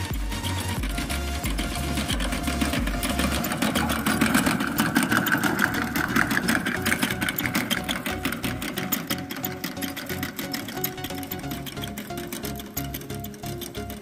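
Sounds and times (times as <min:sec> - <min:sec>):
planter rattling over soil: 0:00.0 - 0:14.0.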